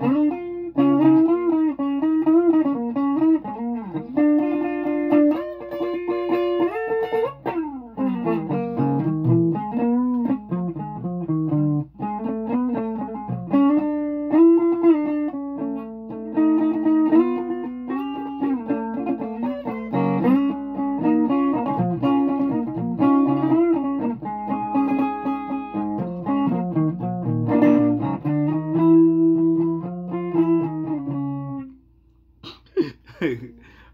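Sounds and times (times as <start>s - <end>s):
guitar picked notes and chords: 0.0s - 32.1s.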